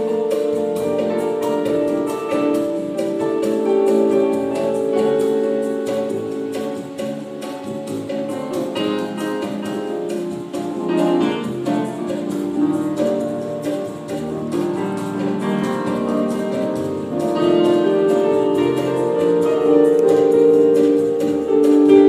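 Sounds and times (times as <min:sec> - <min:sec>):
electronic keyboard playing: 0:00.0 - 0:22.0.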